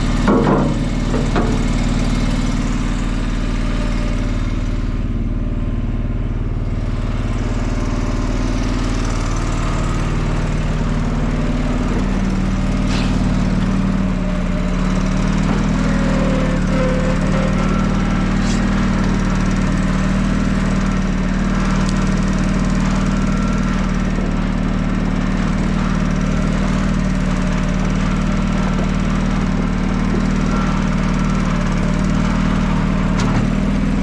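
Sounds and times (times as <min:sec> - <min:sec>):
small engine humming steadily: 0:00.0 - 0:34.0.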